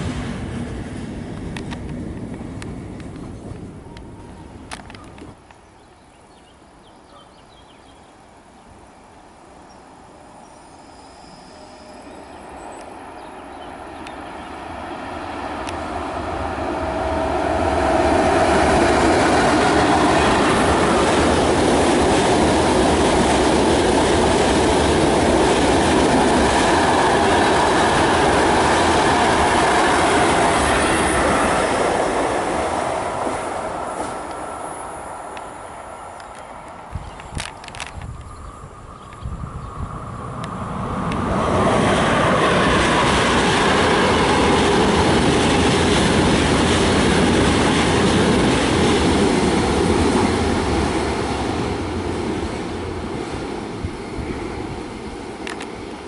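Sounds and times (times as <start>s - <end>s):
train wheel and rail noise: 0.0s - 56.0s.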